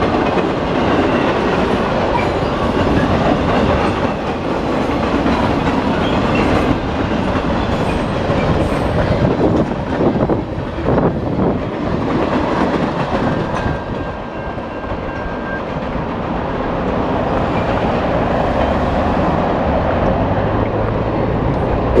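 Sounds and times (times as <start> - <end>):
train rumbling: 0.0 - 22.0
train wheels clicking over rail joints: 0.0 - 22.0.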